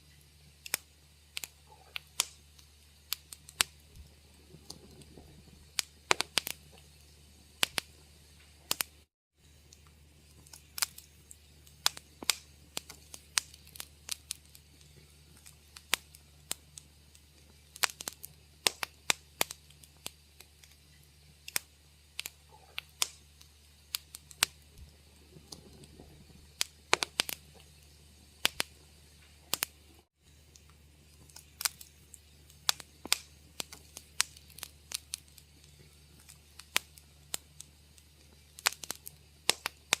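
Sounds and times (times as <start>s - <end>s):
faint low hum: 0.0s - 40.0s
wood fire pops and snaps: 0.0s - 40.0s.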